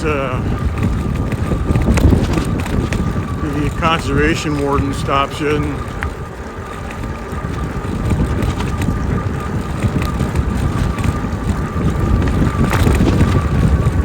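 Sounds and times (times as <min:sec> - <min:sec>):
electric motor whine: 0:00.0 - 0:14.0
low riding rumble: 0:00.0 - 0:14.0
wind buffeting microphone: 0:00.0 - 0:14.0.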